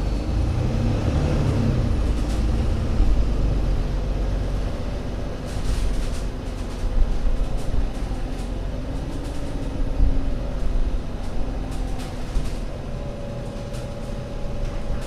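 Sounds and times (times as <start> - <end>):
bus engine rumble with whine: 0.0 - 15.0.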